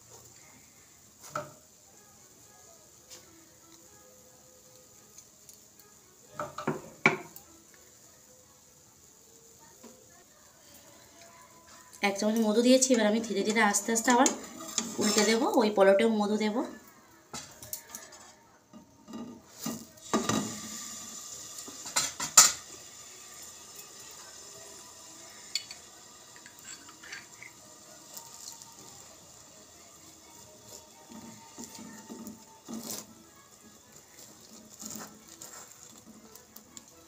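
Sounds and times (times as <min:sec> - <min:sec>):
toast sizzling in butter: 0:00.0 - 0:37.0.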